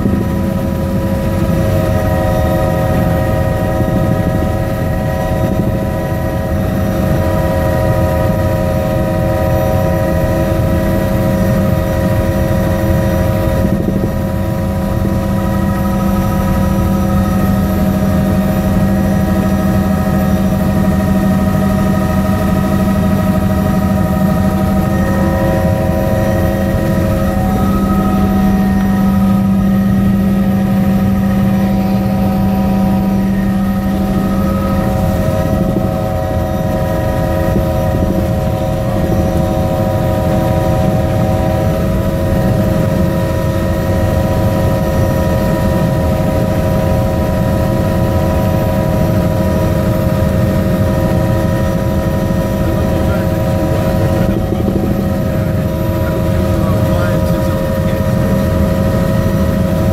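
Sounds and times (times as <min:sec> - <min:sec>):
helicopter cabin drone: 0:00.0 - 0:59.9
high whine: 0:00.0 - 0:59.9
strong low hum: 0:00.0 - 0:59.9.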